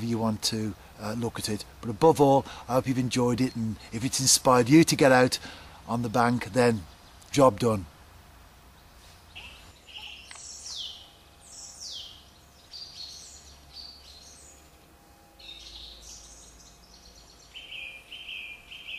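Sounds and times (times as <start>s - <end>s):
songbirds singing: 0.0s - 18.9s.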